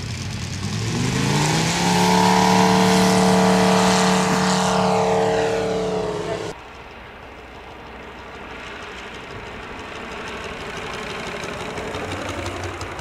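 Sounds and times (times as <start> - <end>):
model airplane engine running: 0.0 - 13.0.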